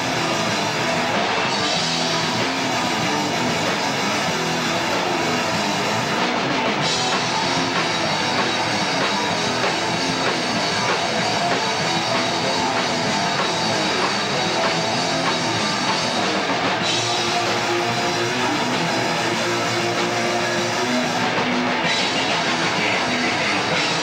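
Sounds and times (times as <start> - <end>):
drum kit: 0.0 - 24.0
electric guitar: 0.0 - 24.0.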